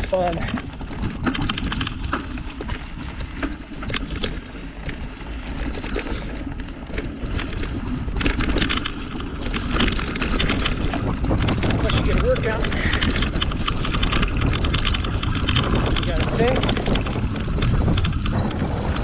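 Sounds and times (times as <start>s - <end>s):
bike tyres rumbling on dirt: 0.0s - 19.0s
chain and frame rattling: 0.0s - 19.0s
wind noise on microphone: 0.0s - 19.0s.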